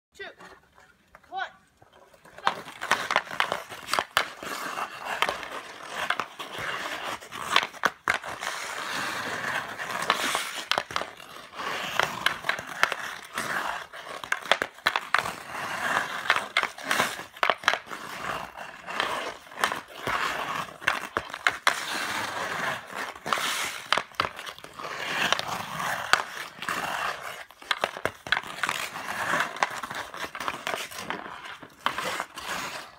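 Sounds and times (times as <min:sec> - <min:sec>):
skate blades scraping on ice: 0:00.2 - 0:32.9
hockey stick clacking on puck: 0:02.4 - 0:08.6, 0:09.8 - 0:18.2, 0:18.9 - 0:32.8.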